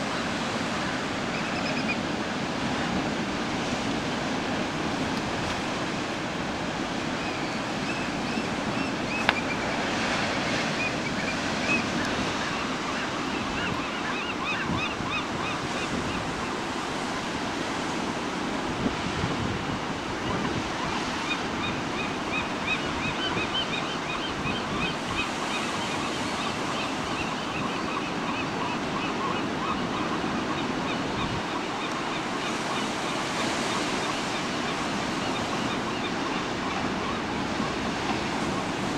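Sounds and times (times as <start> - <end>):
gulls calling: 0.0 - 17.9, 20.0 - 38.9.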